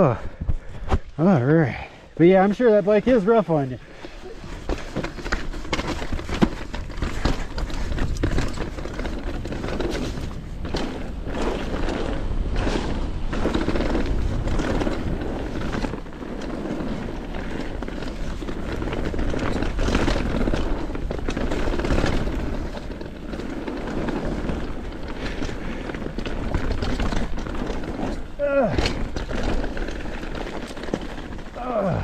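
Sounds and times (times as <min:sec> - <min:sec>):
rumble of tyres: 0:00.0 - 0:32.0
bike rattling and knocking: 0:01.7 - 0:32.0.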